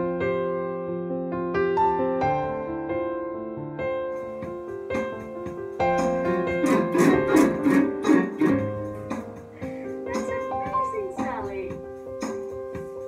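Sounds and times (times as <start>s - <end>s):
instrumental keyboard music: 1.6s - 13.0s.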